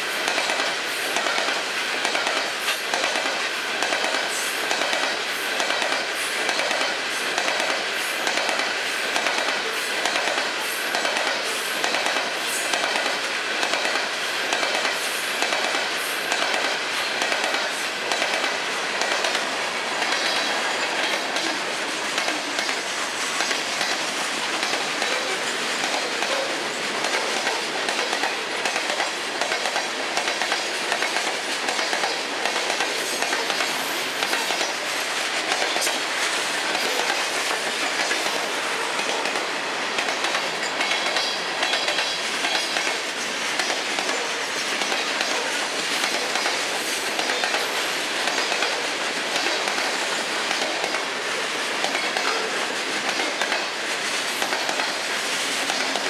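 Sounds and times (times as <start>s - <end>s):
wheels clacking over rail joints: 0.0s - 56.0s.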